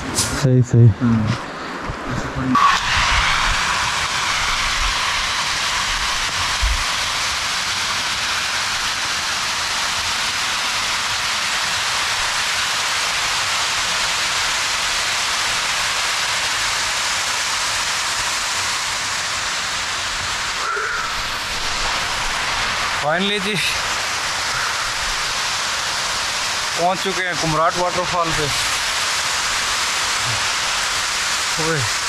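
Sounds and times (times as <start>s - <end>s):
water rushing through gorge: 3.8s - 32.0s.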